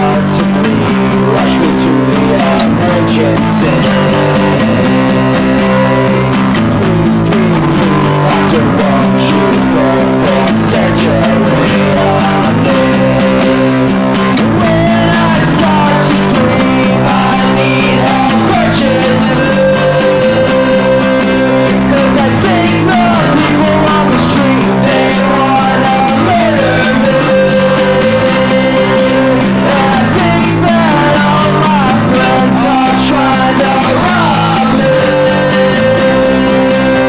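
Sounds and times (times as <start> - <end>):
rock song with guitars: 0.0 - 37.0.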